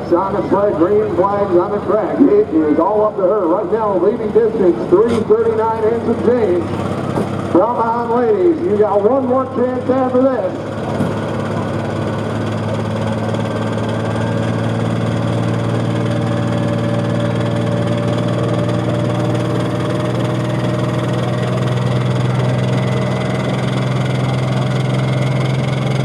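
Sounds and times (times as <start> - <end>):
diesel engine running hard: 0.0 - 26.0.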